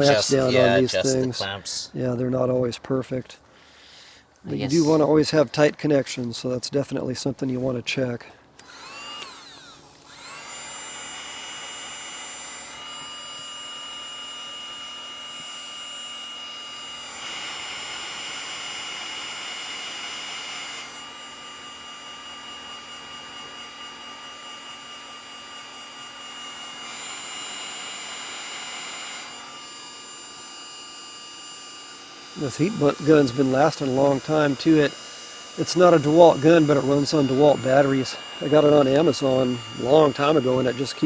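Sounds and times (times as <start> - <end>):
heat gun fan whine and hiss: 0.0 - 1.3, 8.6 - 41.0.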